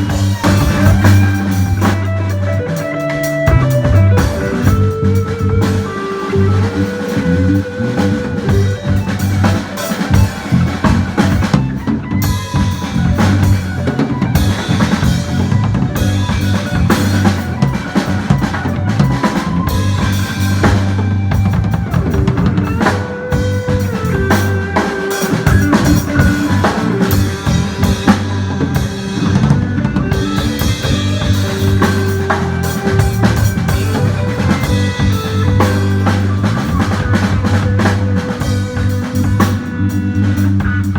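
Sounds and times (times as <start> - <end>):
bass line: 0.0 - 40.9
drum kit groove: 0.0 - 40.9
sustained melodic notes: 0.0 - 40.9.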